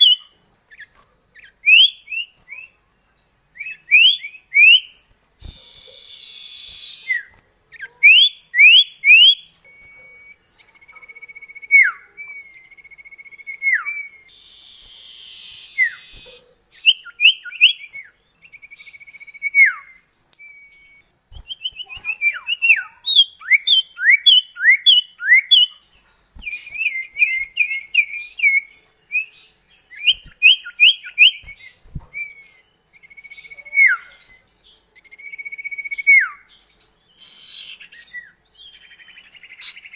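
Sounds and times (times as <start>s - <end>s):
birds singing a duet: 0.0s - 39.9s.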